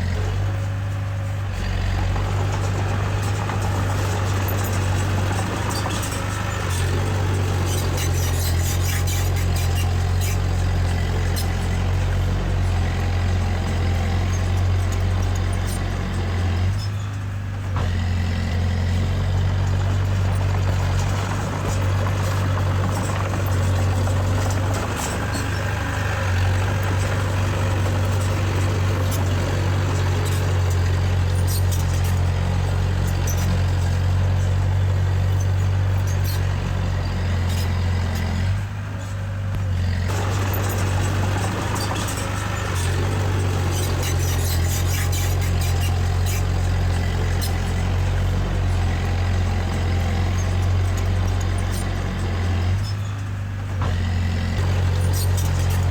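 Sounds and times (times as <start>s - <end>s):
diesel machinery engine hum: 0.0s - 55.9s
clanks and rattles: 0.1s - 55.9s.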